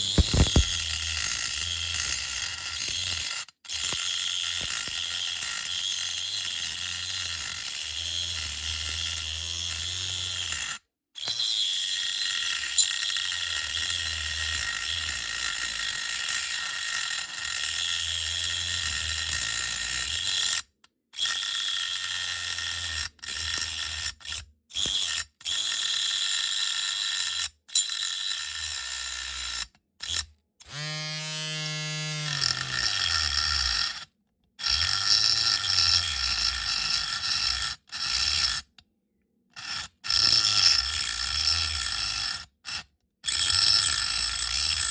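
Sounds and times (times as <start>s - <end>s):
small cutting tool whining: 0.0s - 38.8s, 39.5s - 44.9s.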